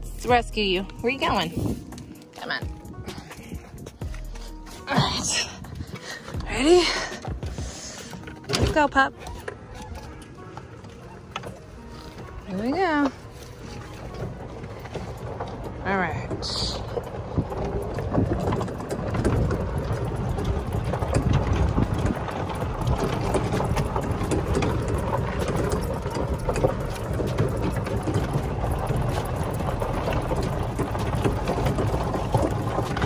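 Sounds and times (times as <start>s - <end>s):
golf cart rumbling: 0.0s - 33.0s
small knocks and rattles: 1.0s - 33.0s.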